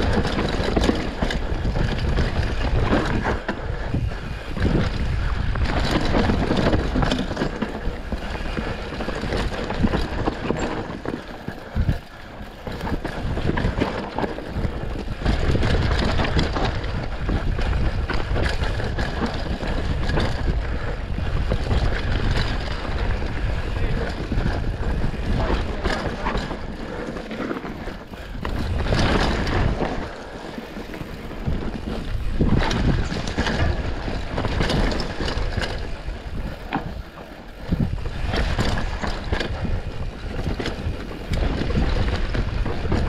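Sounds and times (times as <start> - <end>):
bike rattling over bumps: 0.0 - 43.0
tyres on loose dirt: 0.0 - 43.0
wind noise on microphone: 0.0 - 43.0.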